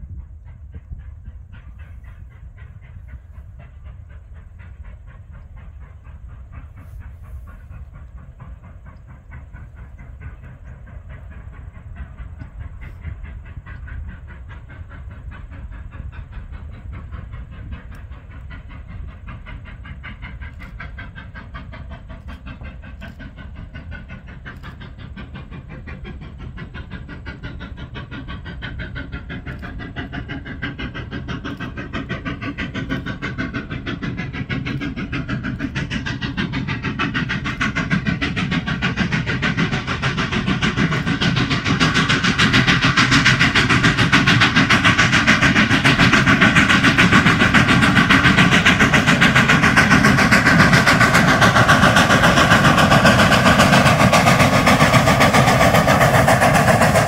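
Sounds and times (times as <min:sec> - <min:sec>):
steam train on rails: 0:00.0 - 0:57.0.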